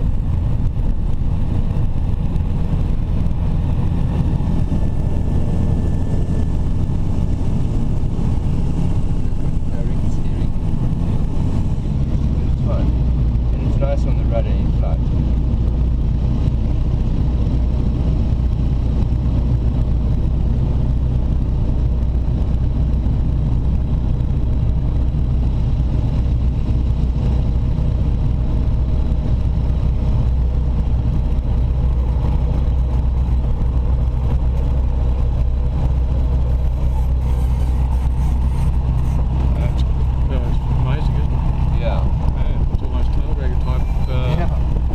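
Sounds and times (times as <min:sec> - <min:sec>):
light aircraft engine droning: 0:00.0 - 0:44.9.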